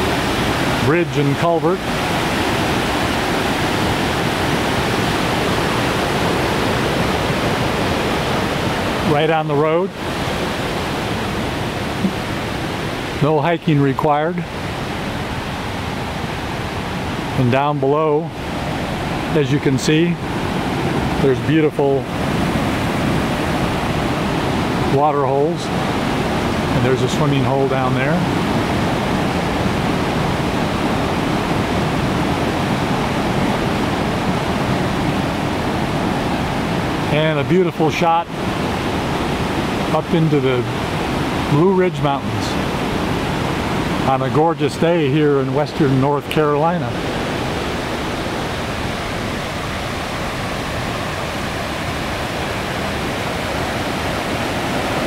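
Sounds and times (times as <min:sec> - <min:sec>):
mountain stream over waterfall: 0:00.0 - 0:55.0.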